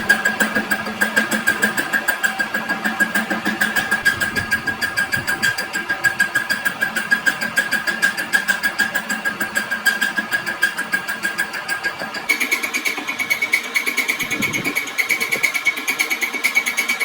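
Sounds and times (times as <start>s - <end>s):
machine clattering: 0.0s - 17.0s
machine whine: 0.0s - 17.0s.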